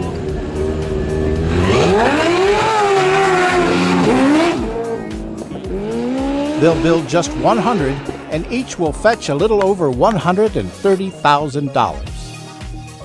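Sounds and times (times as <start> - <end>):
engine revving: 0.0 - 12.2.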